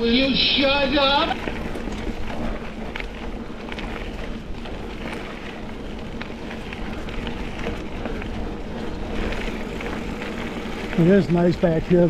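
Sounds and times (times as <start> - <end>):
bike tyres rolling on gravel: 0.0 - 12.0
gravel crackles and clicks: 0.0 - 12.0.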